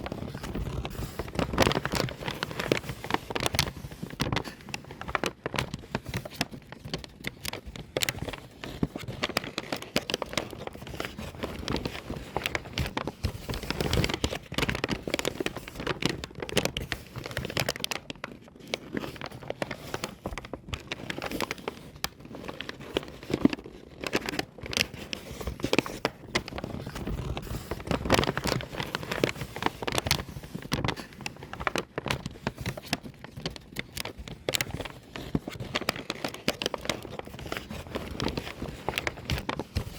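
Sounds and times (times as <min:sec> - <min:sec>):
paper bag crumpling: 0:00.0 - 0:39.9.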